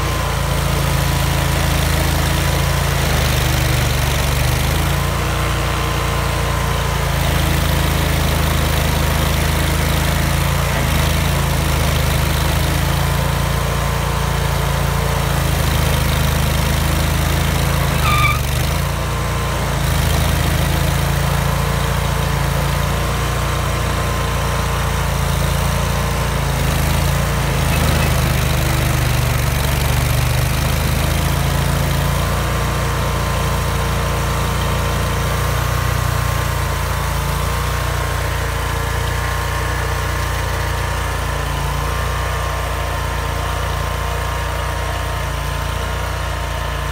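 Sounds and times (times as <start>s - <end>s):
cutter wheel grinding stump: 0.0s - 46.9s
stump grinder engine running: 0.0s - 46.9s.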